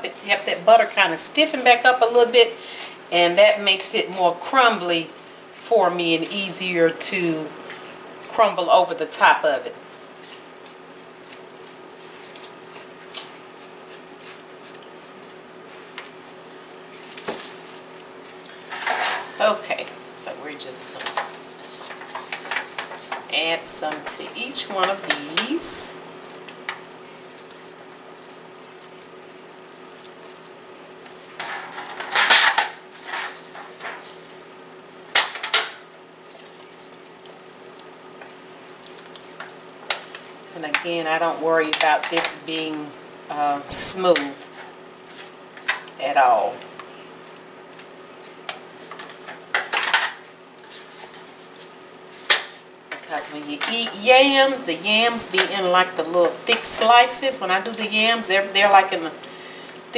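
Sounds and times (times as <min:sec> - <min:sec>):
steady hum: 0:00.0 - 0:59.9.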